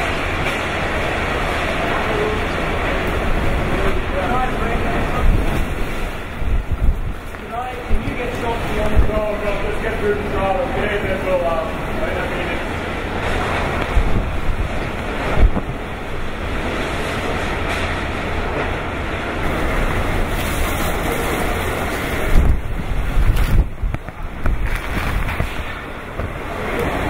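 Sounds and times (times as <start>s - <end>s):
driving rain: 0.0s - 27.0s
typhoon wind: 0.0s - 27.0s
wind gusts buffeting microphone: 0.0s - 27.0s.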